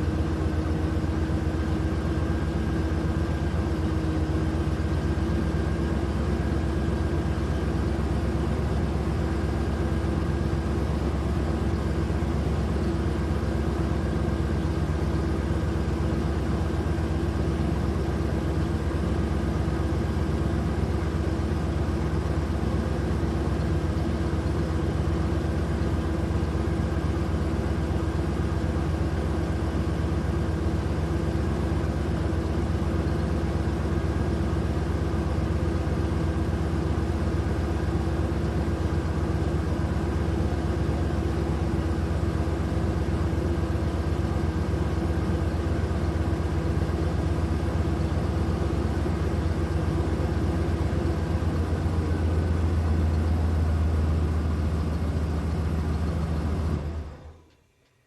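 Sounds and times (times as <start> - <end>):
engine idling drone: 0.0 - 58.0.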